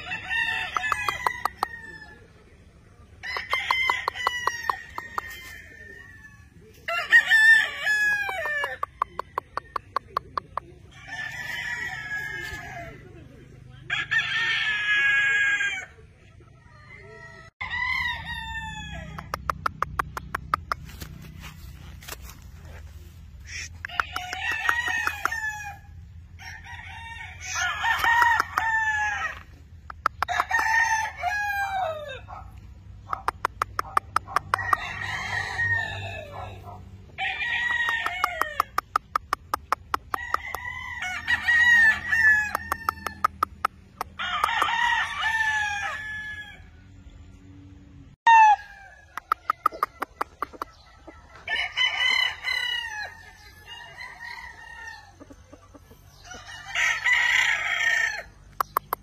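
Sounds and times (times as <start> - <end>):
roosters crowing: 0.0 - 39.3, 40.0 - 59.0.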